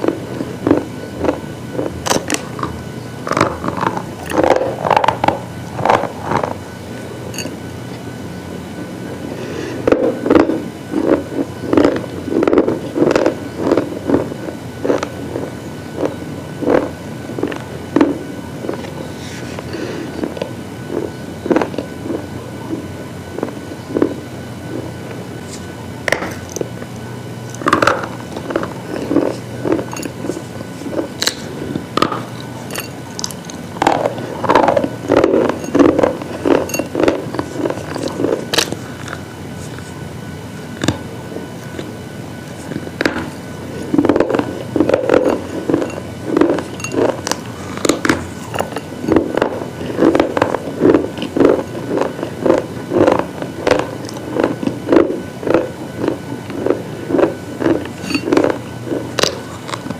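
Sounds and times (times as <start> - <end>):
slate crunching and cracking: 0.0 - 7.6, 9.5 - 22.2, 24.8 - 40.0, 41.6 - 59.9
low steady hum: 0.0 - 59.9.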